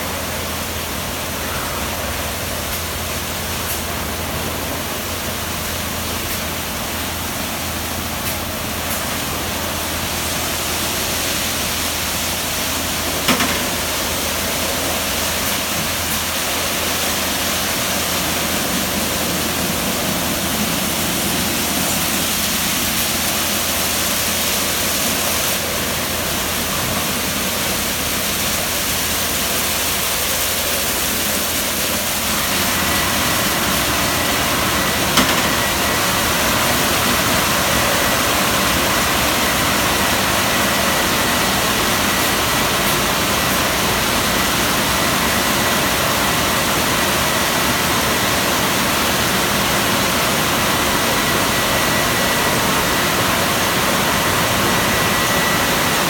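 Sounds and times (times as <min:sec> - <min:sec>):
thin steady whine: 0:00.0 - 0:56.0
water spraying: 0:00.0 - 0:56.0.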